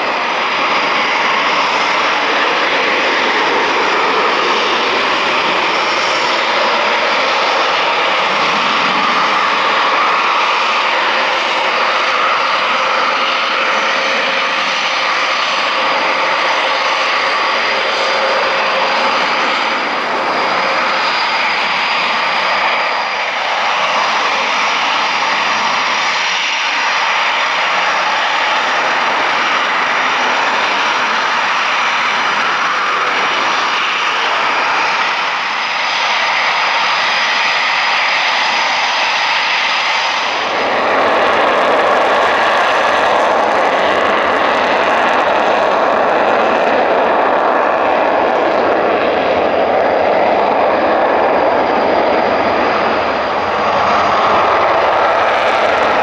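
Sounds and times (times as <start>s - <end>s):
jet engines roaring: 0.0s - 56.0s
thin high jet whine: 0.0s - 56.0s.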